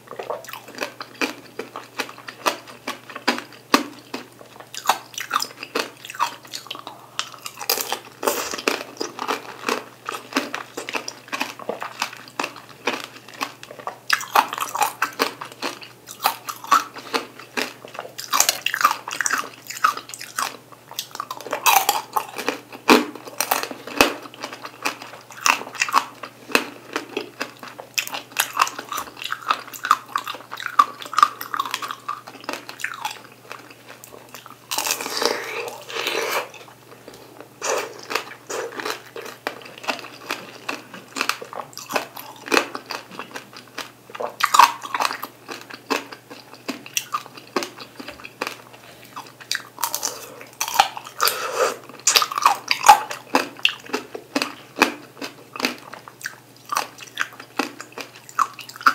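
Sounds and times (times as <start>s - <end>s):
chewing and crunching: 0.0s - 58.9s.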